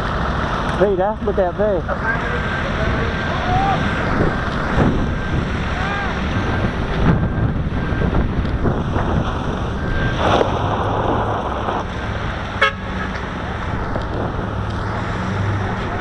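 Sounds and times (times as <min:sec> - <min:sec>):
truck engine tyre and wind noise: 0:00.0 - 0:16.0.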